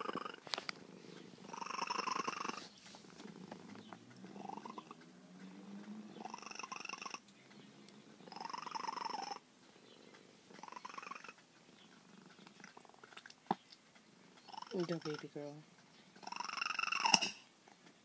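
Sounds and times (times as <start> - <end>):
cat purring: 0.0 - 17.4.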